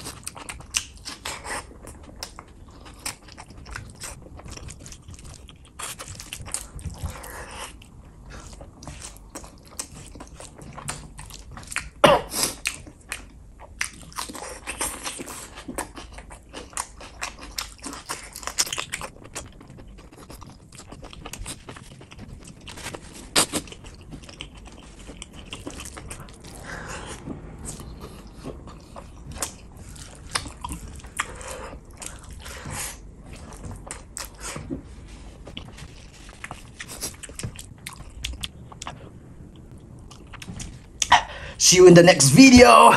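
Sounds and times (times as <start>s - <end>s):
chewing and mouth smacking: 0.0s - 41.3s.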